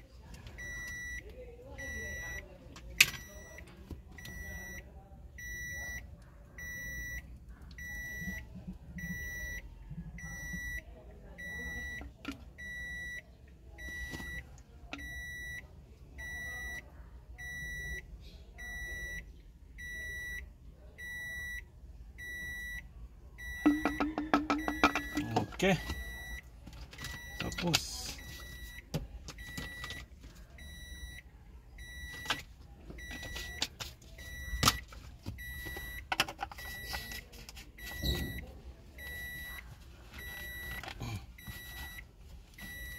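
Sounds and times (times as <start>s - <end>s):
vehicle warning beeper: 0.6s - 2.4s, 3.0s - 13.2s, 13.8s - 15.6s, 16.2s - 16.8s, 17.4s - 42.9s.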